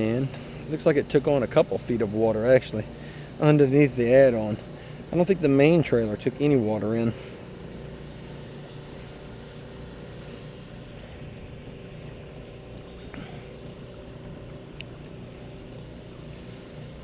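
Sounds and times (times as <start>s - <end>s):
boat low rumble: 0.0s - 17.0s
faint steady hum: 0.0s - 17.0s.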